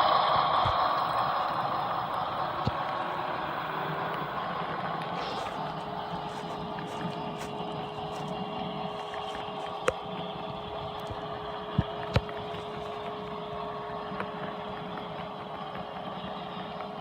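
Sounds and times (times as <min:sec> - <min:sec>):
diesel engine sound from small speaker: 0:00.0 - 0:17.0.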